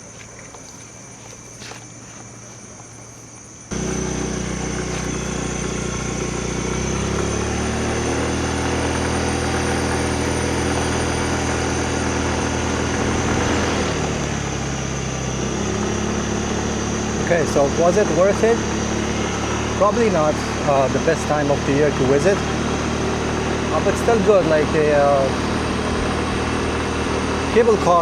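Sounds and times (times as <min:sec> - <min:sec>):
small motorbike engine running: 0:03.7 - 0:28.0.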